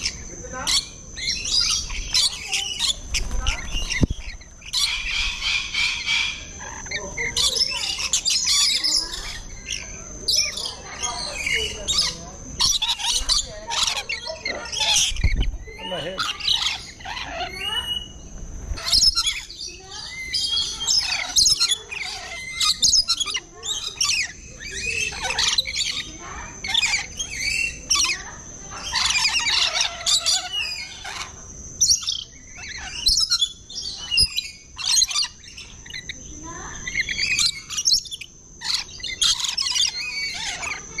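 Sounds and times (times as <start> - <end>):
parrots screeching and chattering: 0.0 - 41.0.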